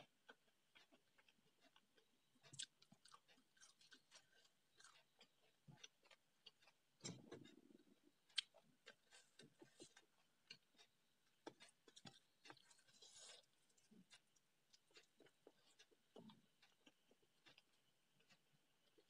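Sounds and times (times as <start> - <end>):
faint chewing: 0.0 - 19.0.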